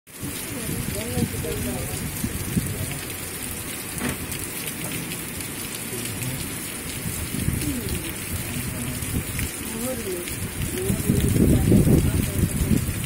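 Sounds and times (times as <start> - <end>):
rain splashing into water: 0.1 - 13.0.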